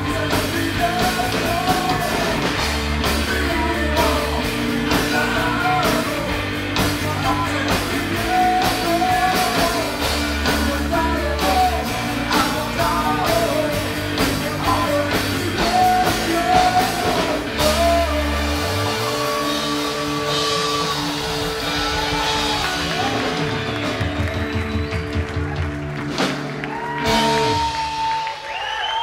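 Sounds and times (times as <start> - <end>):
man singing: 0.0 - 23.9
drums hitting: 0.0 - 28.1
rock band playing: 0.0 - 29.0.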